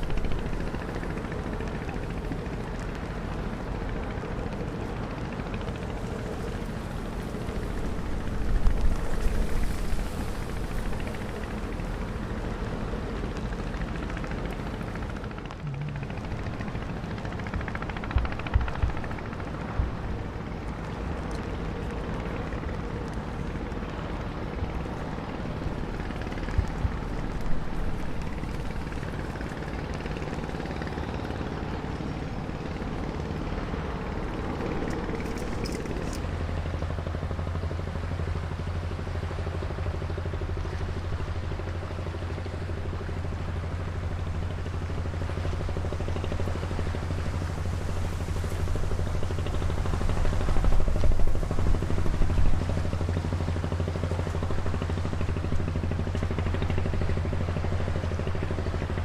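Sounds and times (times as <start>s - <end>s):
boat engine droning: 0.0s - 59.0s
even low hum: 0.0s - 59.0s.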